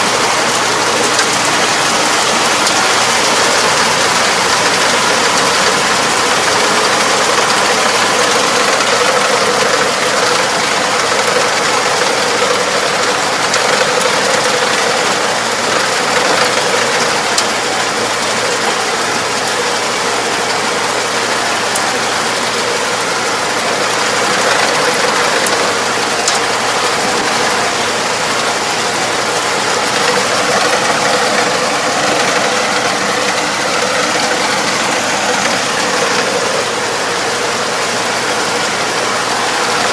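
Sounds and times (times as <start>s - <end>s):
farm machine engine clattering: 0.0s - 39.9s.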